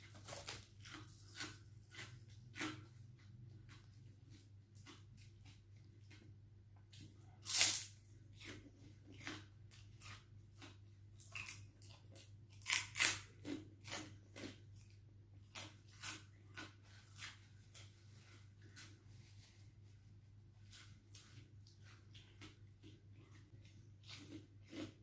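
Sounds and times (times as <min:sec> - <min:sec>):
crunching and chewing: 0:00.0 - 0:19.4, 0:20.6 - 0:25.0.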